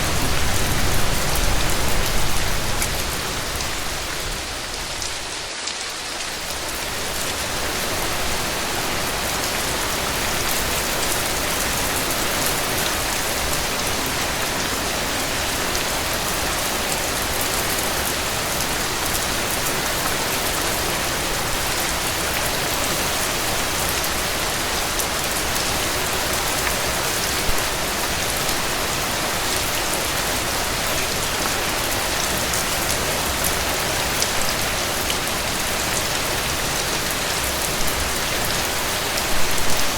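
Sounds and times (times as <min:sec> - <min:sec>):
heavy rain on a porch: 0:00.0 - 0:39.9.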